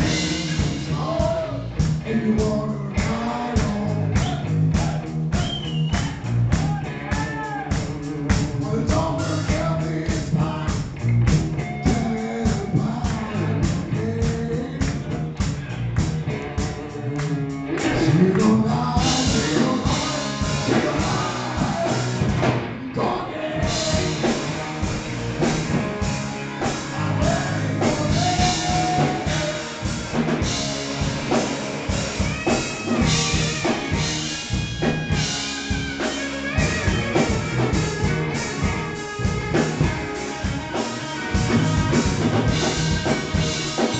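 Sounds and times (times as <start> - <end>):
person singing lead vocal: 0.0 - 5.6, 6.7 - 11.0, 11.6 - 43.9
drum kit beat: 0.0 - 22.8, 23.6 - 43.9
electric bass: 0.0 - 43.9
electric guitars: 0.0 - 43.9.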